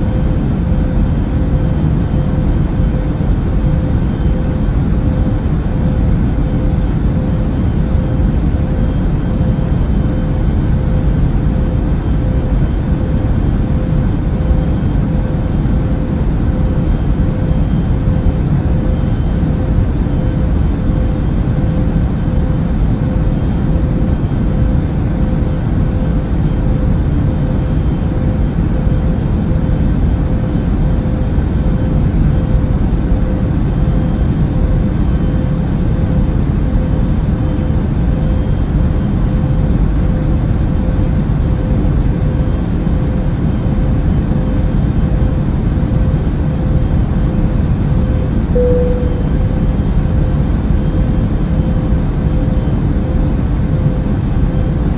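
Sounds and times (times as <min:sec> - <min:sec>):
constant cabin hum: 0:00.0 - 0:54.9.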